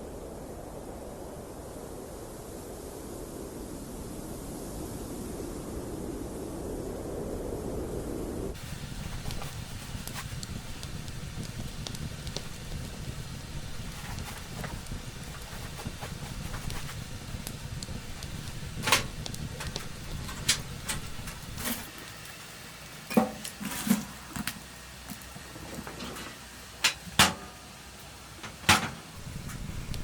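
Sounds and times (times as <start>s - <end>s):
low steady rumble: 0.0s - 21.9s, 27.5s - 30.0s.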